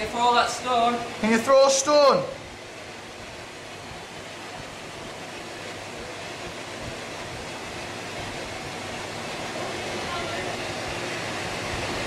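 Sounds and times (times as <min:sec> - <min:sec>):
static hiss: 0:00.0 - 0:12.0.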